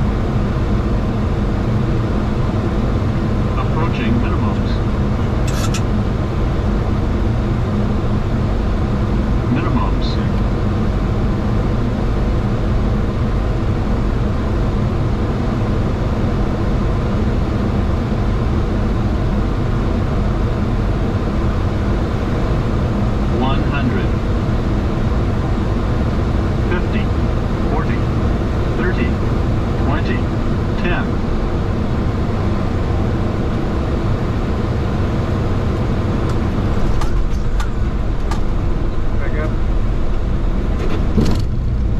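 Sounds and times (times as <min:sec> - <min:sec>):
cockpit airflow and engine drone: 0:00.0 - 0:41.9.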